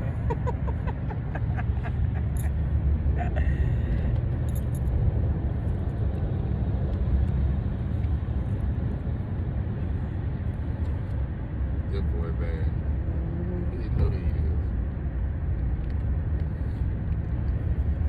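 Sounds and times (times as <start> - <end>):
motor vehicle rumble: 0.0 - 18.0.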